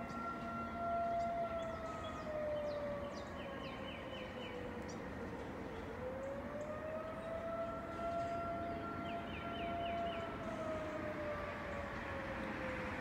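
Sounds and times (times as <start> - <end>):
warning siren wailing: 0.0 - 13.0.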